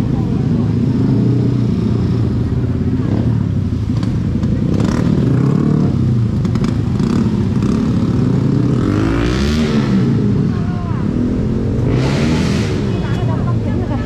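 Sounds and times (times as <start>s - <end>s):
motorbike engines running: 0.0s - 14.0s.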